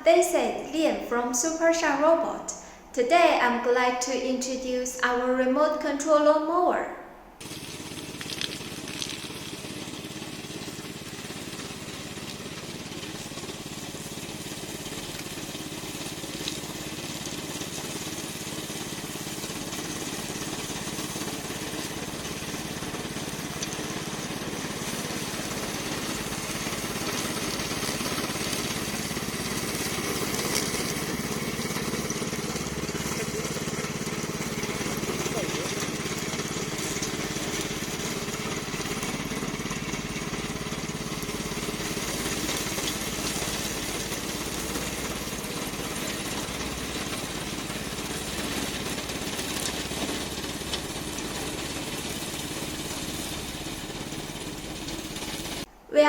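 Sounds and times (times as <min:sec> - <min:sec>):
lawn mower engine hum: 0:07.4 - 0:55.7.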